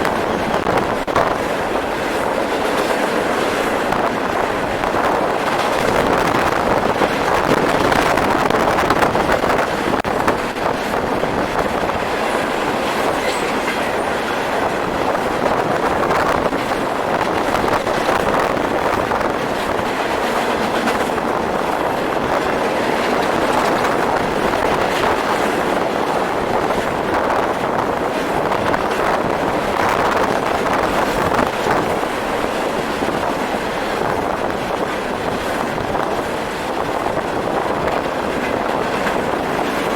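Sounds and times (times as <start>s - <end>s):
train wheels clattering on rails: 0.0s - 39.9s
wind noise on microphone: 0.0s - 39.9s.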